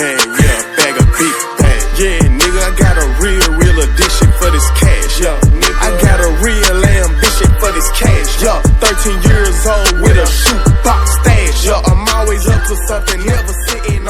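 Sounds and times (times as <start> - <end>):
hip hop music: 0.0 - 14.0.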